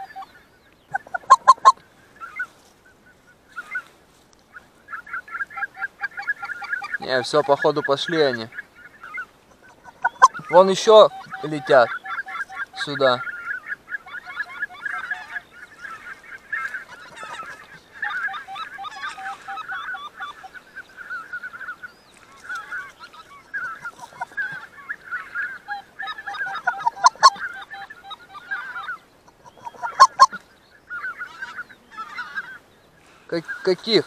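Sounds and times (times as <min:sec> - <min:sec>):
wild geese honking: 0:00.0 - 0:34.0.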